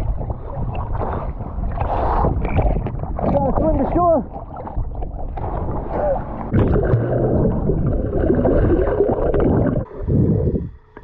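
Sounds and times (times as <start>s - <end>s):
water rushing and bubbling underwater: 0.0s - 11.0s.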